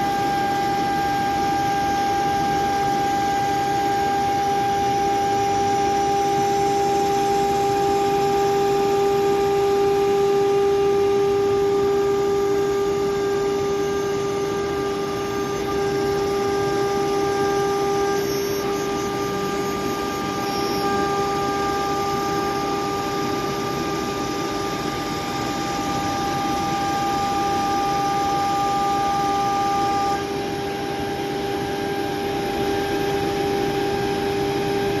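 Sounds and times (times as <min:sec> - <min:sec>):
end mill cutting metal: 0:00.0 - 0:31.7
router spindle whining: 0:00.0 - 0:35.0.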